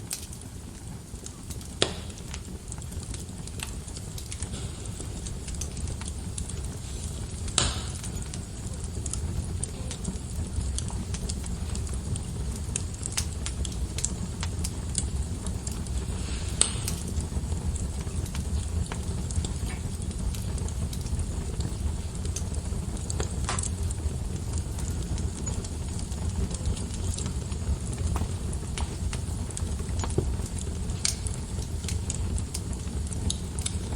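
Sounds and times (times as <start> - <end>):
fire flames rumbling: 0.0 - 33.9
wood fire crackling and popping: 0.0 - 33.9.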